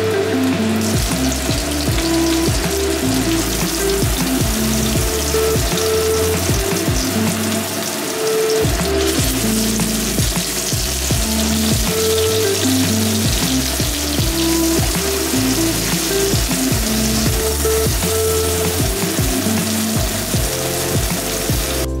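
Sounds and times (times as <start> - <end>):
background music with bass: 0.0 - 22.0
oil sizzling in a pan: 0.7 - 21.9.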